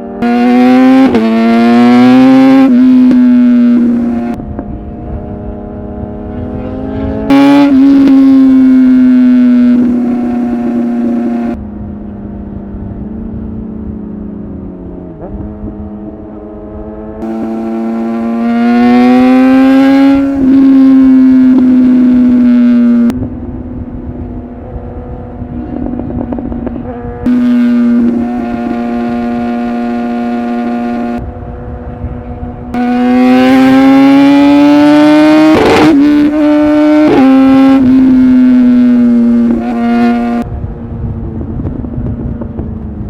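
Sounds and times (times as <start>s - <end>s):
motorcycle engine revving high: 0.0s - 43.0s.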